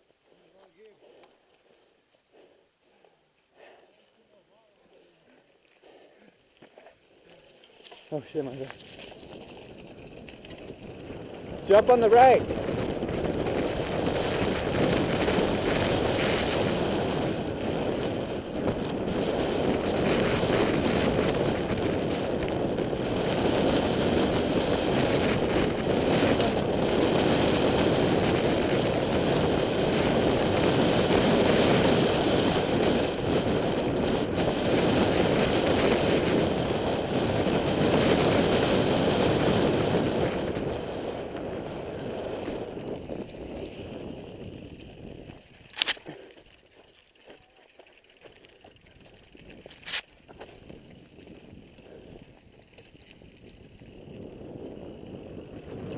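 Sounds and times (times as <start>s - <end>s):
bike tyres crunching over dirt: 3.6s - 55.9s
bike rattling and clicking: 5.7s - 55.9s
wind noise on microphone: 8.3s - 46.9s, 47.8s - 55.9s.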